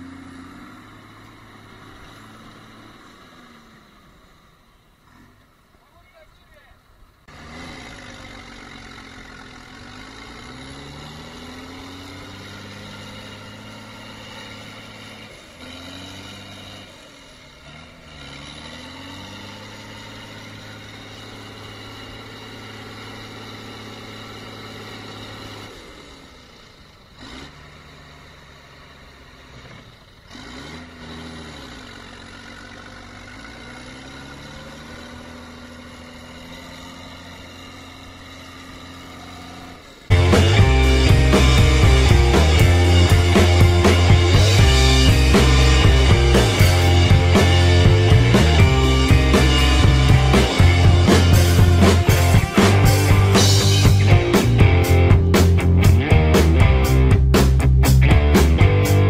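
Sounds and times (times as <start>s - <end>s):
tractor engines under load: 0.0s - 59.0s.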